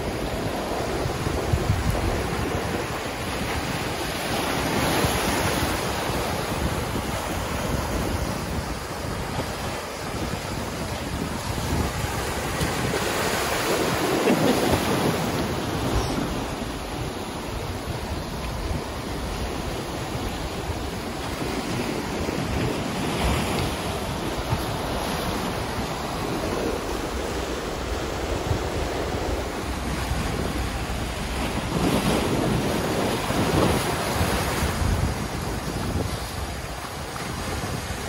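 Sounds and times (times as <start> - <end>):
ocean surf on rocky shore: 0.0 - 38.0
wind buffeting microphone: 0.0 - 38.0.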